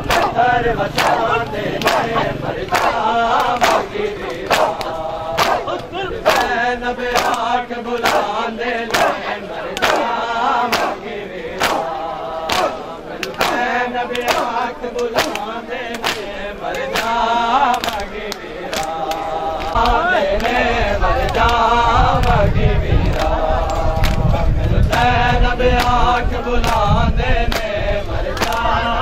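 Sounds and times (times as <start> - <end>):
men beating their chests: 0.0 - 28.8
male voices chanting a lament: 0.0 - 29.0.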